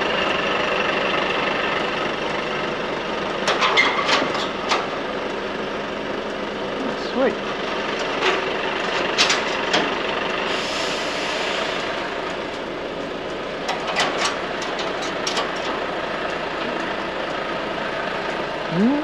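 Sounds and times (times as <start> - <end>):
diesel lorry engine running: 0.0 - 19.0.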